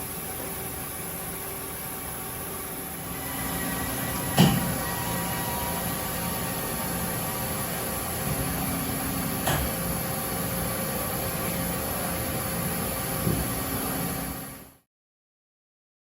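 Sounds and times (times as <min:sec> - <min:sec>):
lathe machine hum: 0:00.0 - 0:14.8.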